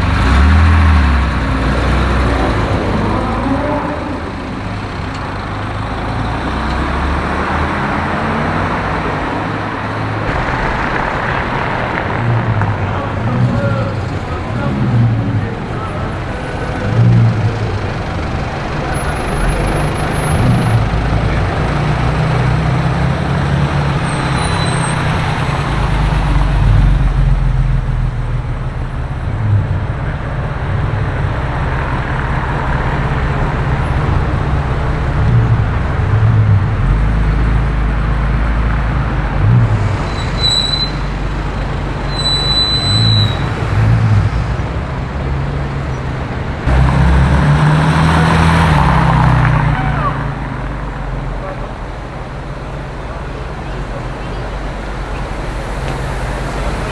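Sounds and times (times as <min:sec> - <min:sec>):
traffic rumbling past: 0:00.0 - 0:56.9.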